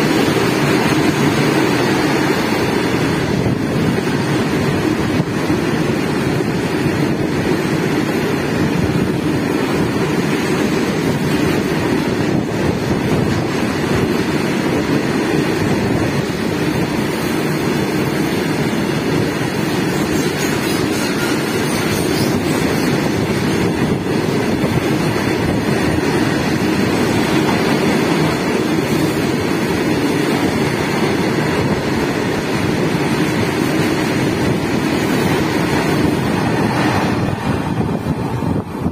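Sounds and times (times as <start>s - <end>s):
freight train wheels rumbling: 0.0s - 38.9s
wind buffeting microphone: 0.0s - 38.9s.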